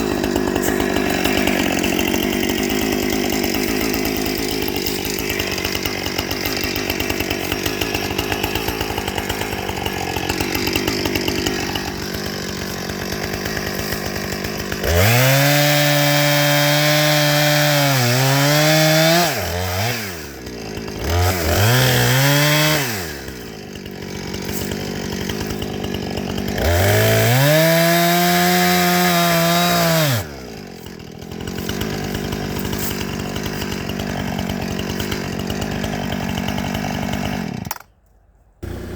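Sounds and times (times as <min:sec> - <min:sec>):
chainsaw revving and cutting wood: 0:00.0 - 0:38.0, 0:38.6 - 0:38.9.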